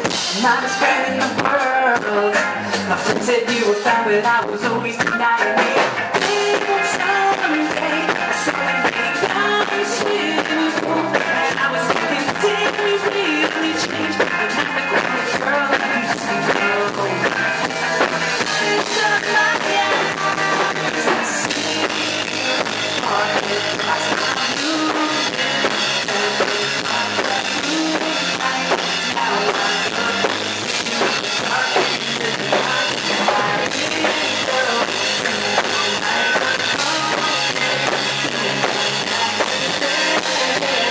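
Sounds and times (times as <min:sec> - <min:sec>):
drum kit: 0:00.0 - 0:40.9
electric guitar: 0:00.0 - 0:40.9
live rock band playing: 0:00.0 - 0:40.9.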